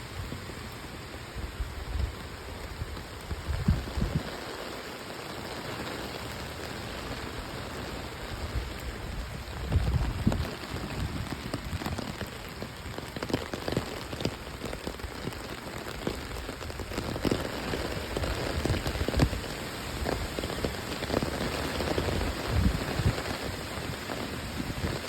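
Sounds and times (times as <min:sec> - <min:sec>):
raindrops striking close by: 0:00.0 - 0:25.0
steady rain: 0:00.0 - 0:25.0.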